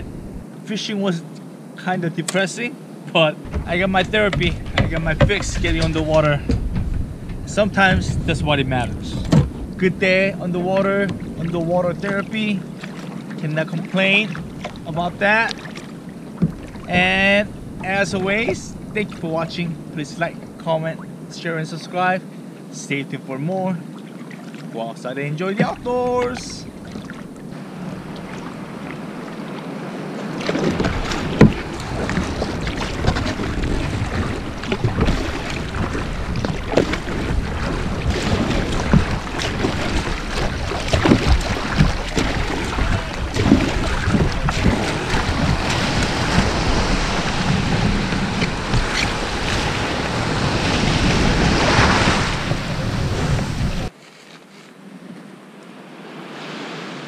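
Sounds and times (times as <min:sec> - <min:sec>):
wind rumbling on microphone: 0:00.0 - 0:00.6, 0:02.8 - 0:21.3, 0:25.4 - 0:54.0
surf washing: 0:00.0 - 0:54.0, 0:55.4 - 0:57.0
water washing around hull: 0:00.0 - 0:54.0
paddle strokes splashing: 0:03.0 - 0:21.2, 0:23.8 - 0:54.3.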